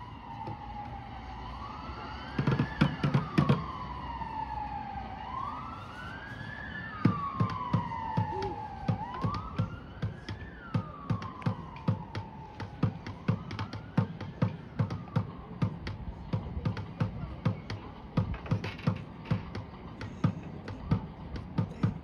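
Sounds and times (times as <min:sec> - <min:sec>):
wailing siren: 0:00.0 - 0:22.0.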